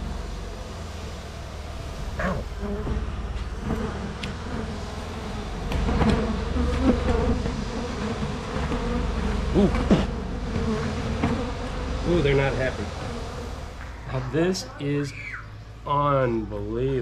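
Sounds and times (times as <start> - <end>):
bees zipping past: 0.0 - 15.6
swarm of bees buzzing: 0.0 - 17.0.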